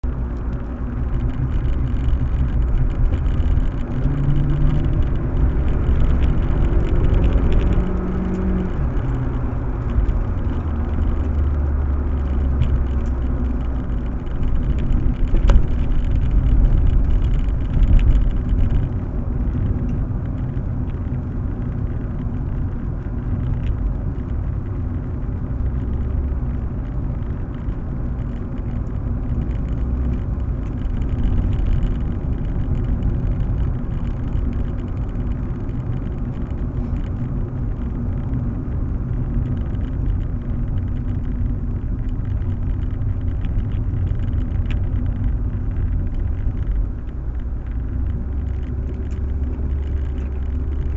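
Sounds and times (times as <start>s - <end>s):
car engine rumble: 0.0s - 50.9s
road noise: 0.0s - 50.9s.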